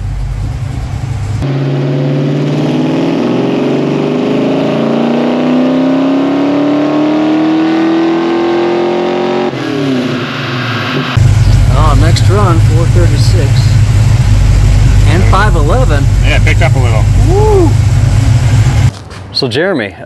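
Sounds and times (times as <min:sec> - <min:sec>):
car engine revving at full throttle: 0:01.1 - 0:18.9.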